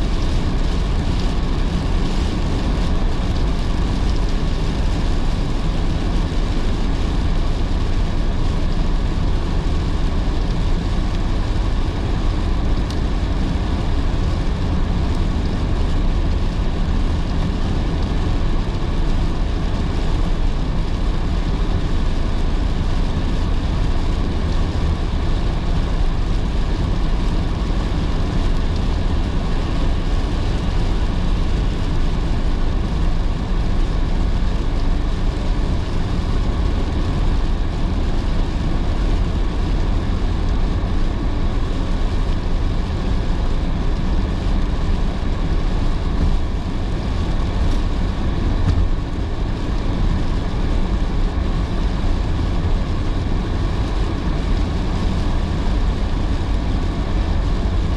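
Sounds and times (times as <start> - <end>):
road and engine rumble: 0.0 - 57.9.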